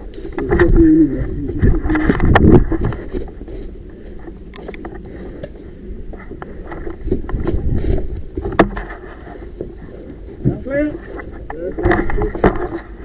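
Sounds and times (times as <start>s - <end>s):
footsteps in undergrowth: 0.0s - 13.0s.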